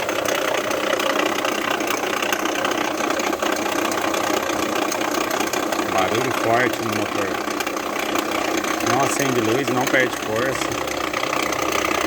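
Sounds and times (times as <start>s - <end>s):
engine idling with rapid clatter: 0.0s - 12.0s.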